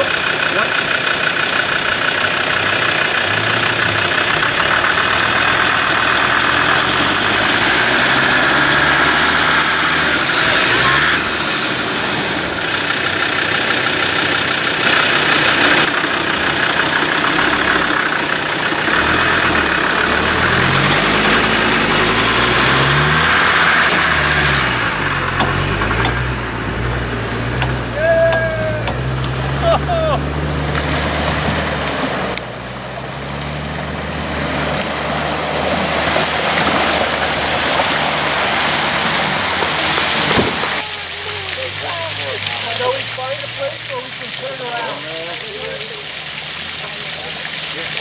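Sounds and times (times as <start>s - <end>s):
vehicle engine revving: 0.0s - 48.0s.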